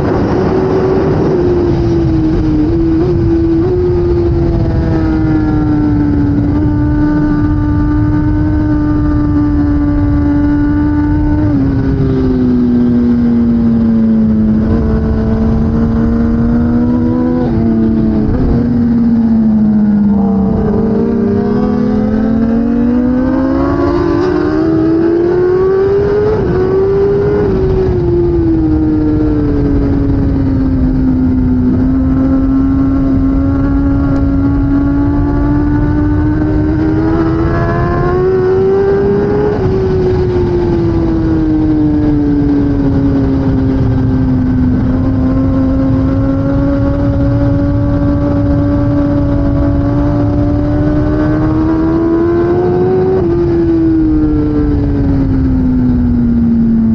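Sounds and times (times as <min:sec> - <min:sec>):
motorcycle engine racing: 0:00.0 - 0:56.9.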